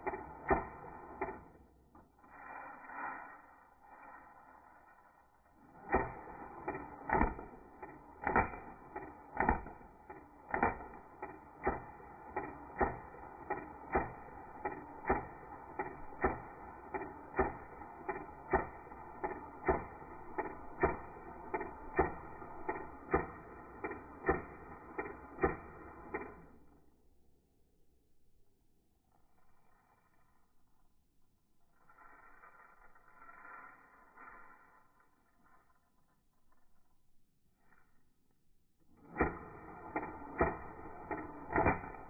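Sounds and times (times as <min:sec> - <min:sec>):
slowed down airsoft shots: 0:00.0 - 0:27.4, 0:31.7 - 0:36.6, 0:37.6 - 0:42.0.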